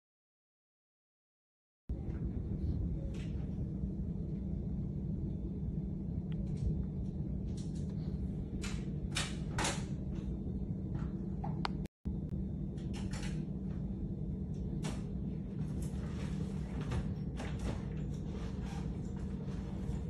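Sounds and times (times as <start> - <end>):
constant hum: 1.9 - 20.0
steady low rumble: 1.9 - 20.0.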